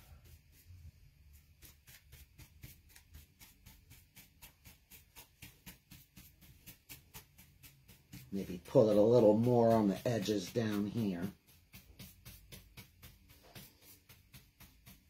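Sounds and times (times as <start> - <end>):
paintbrush strokes on paper: 0.0 - 15.0.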